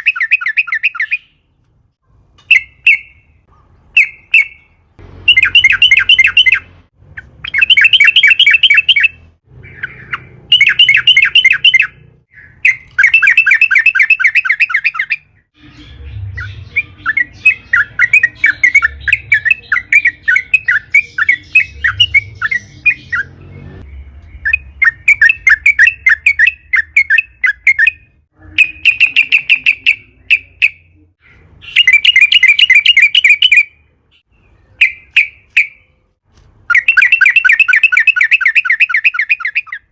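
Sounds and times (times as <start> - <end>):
bulbul singing rattling phrases: 0.0 - 1.5, 2.4 - 36.0, 36.7 - 39.9.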